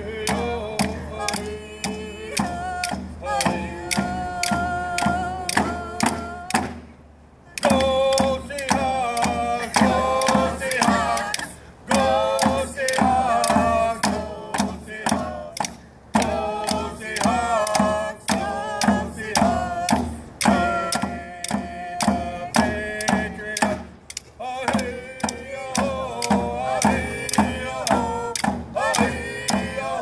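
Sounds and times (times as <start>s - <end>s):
hand drums beating: 0.0s - 6.9s, 7.6s - 30.0s
group of voices singing: 0.0s - 30.0s.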